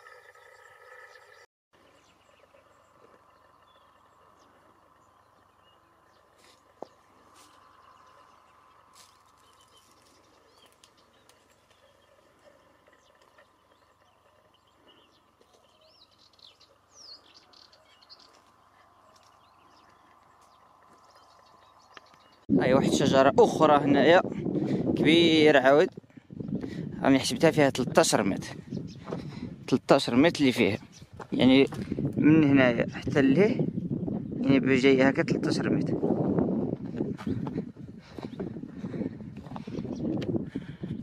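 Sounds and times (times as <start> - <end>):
faint birds chirping: 0.0 - 23.4, 25.4 - 41.0.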